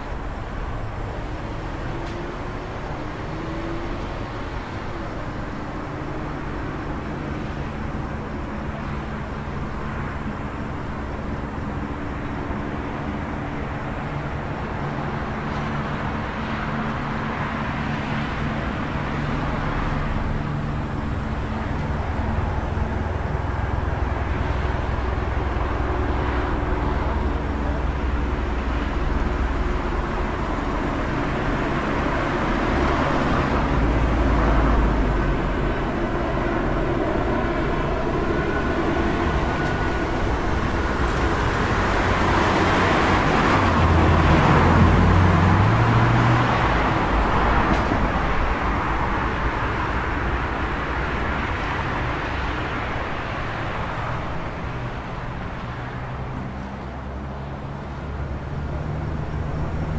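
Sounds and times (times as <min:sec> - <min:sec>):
engines idling and running: 0:00.0 - 0:59.9
heavy vehicle deep rumble: 0:00.0 - 0:59.9.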